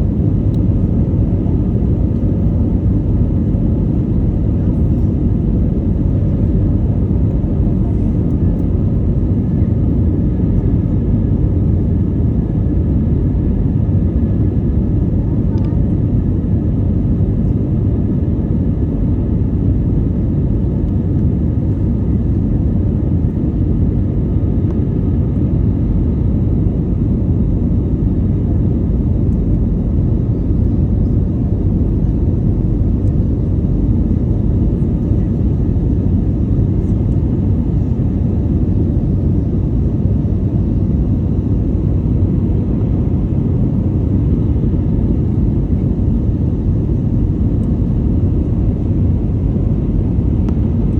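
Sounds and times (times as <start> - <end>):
airplane engine roaring: 0.0 - 50.9.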